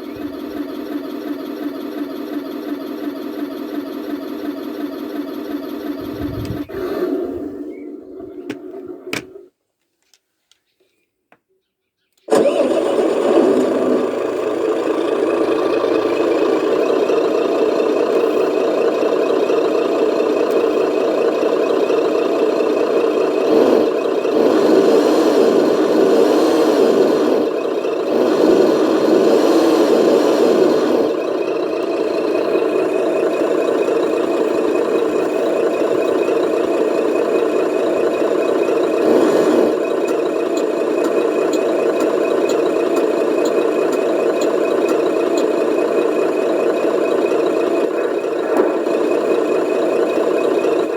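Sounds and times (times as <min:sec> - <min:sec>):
toy truck motor whirring: 0:00.0 - 0:09.5, 0:12.3 - 0:50.9.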